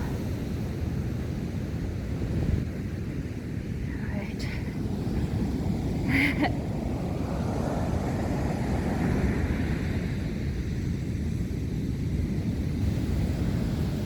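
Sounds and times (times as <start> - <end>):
surf washing on beach: 0.0 - 14.0
wind rumbling on microphone: 0.0 - 14.0.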